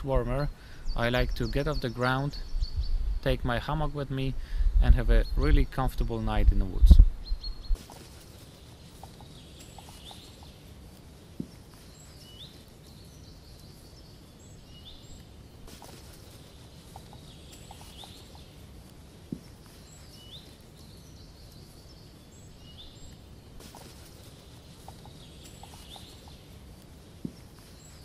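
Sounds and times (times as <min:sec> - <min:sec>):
low outdoor hum: 0:00.0 - 0:28.0
small birds chirping: 0:00.0 - 0:28.0.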